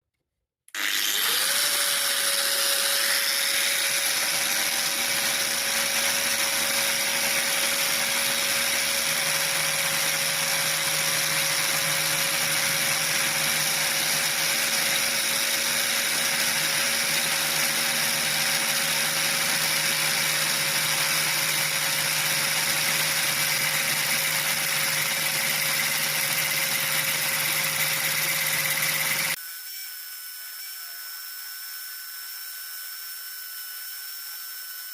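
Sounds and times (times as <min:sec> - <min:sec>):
circular saw whirring: 0:00.7 - 0:34.9.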